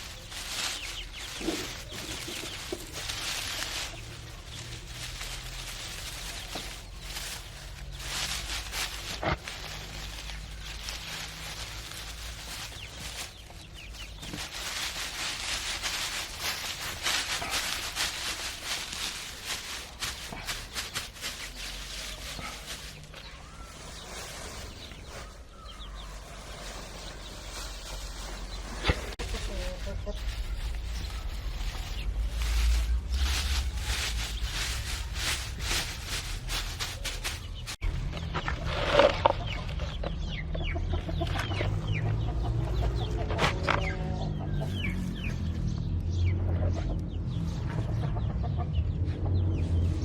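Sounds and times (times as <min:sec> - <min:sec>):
hen and chicks calling: 0:00.0 - 0:50.0.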